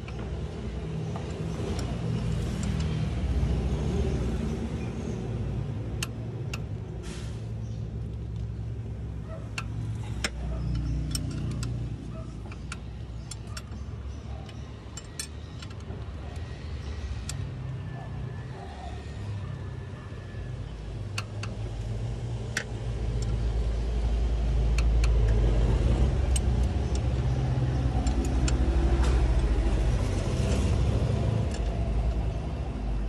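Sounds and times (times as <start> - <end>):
light metallic clicks: 0.0 - 5.0, 5.7 - 7.0, 7.6 - 18.2, 20.6 - 33.0.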